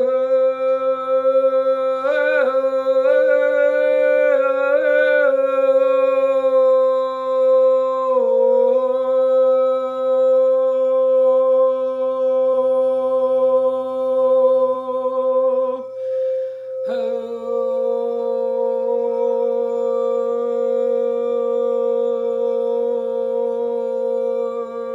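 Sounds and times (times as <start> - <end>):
woman singing long notes: 0.0 - 24.9.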